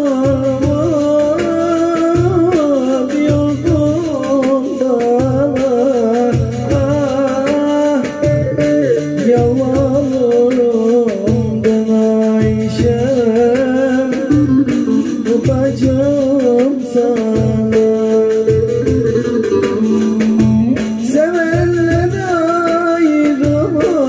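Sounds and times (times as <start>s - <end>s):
man singing in ornamented voice: 0.0s - 24.0s
steady low percussive beat: 0.0s - 24.0s.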